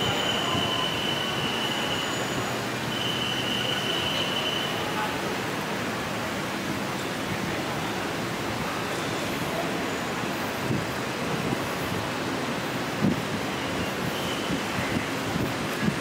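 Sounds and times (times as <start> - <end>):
traffic noise of cars and vans: 0.0 - 16.0.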